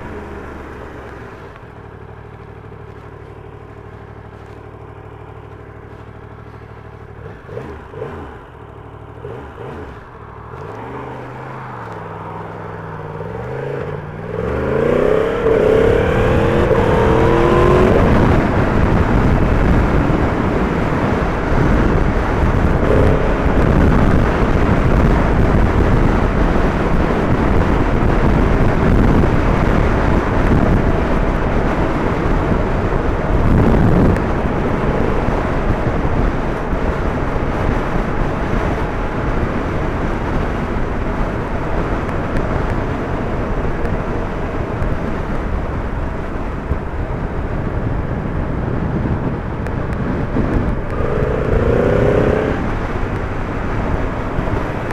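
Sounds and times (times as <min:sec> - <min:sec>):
motorcycle engine running: 0:00.0 - 0:54.9
wind rush over microphone: 0:10.6 - 0:54.9.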